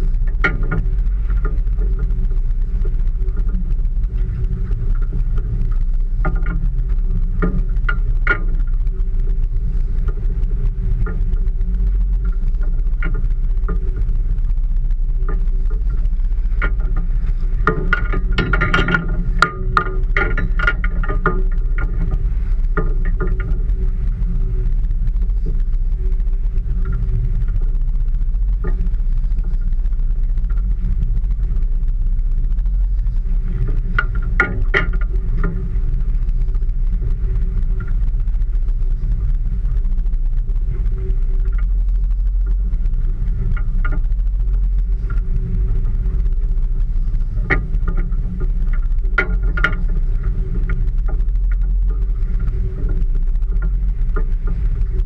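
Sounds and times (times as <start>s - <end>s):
sharp knocks and clicks: 0.0s - 14.1s, 14.8s - 25.7s, 32.4s - 38.4s, 40.8s - 55.0s
boat engine low rumble: 0.0s - 55.0s
faint steady hum: 0.0s - 55.0s.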